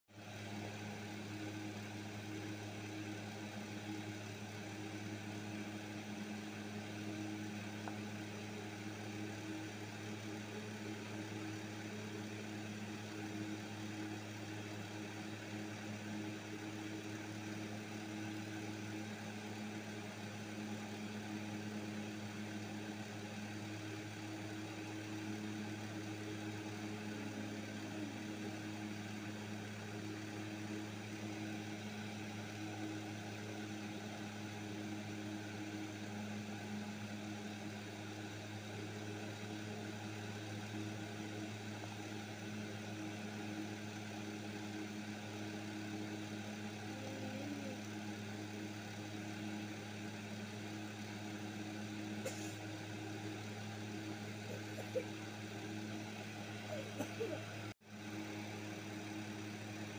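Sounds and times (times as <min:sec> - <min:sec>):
low machine hum: 0:00.2 - 0:59.9.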